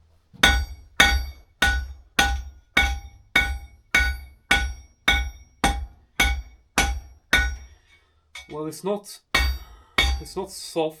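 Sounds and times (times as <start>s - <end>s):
hammer striking steel on anvil: 0.4s - 8.6s, 9.4s - 10.5s.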